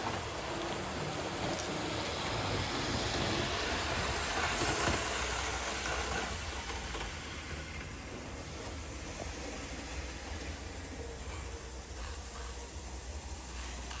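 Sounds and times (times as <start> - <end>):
model train rumbling on track: 0.0 - 14.0.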